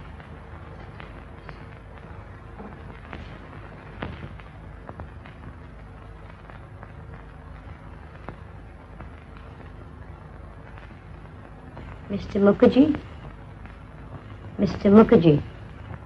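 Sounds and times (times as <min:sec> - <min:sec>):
film soundtrack hiss: 0:00.0 - 0:16.0
low hum: 0:00.0 - 0:16.0.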